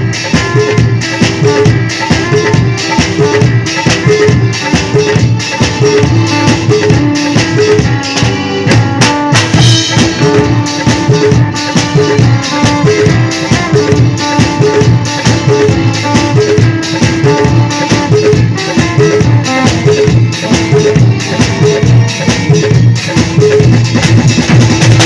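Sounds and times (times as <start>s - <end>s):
electric guitar: 0.0s - 25.0s
live band music: 0.0s - 25.0s.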